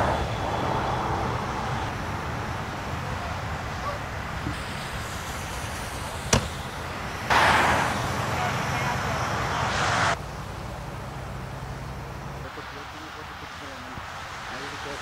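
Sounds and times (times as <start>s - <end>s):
highway traffic rumble: 0.0s - 15.0s
vehicle passing: 0.0s - 15.0s.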